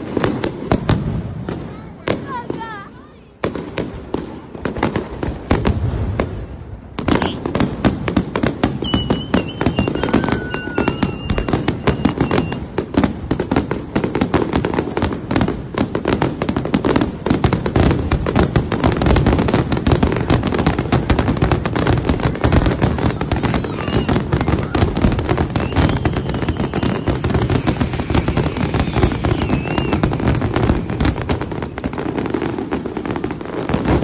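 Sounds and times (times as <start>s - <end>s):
fireworks crackling: 0.0s - 34.0s.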